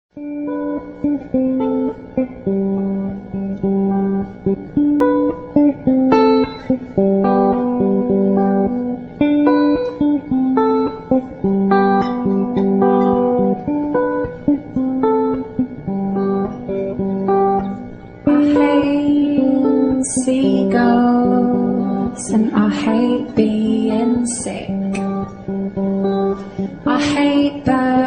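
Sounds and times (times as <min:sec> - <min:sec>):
plucked guitar melody: 0:00.1 - 0:28.0.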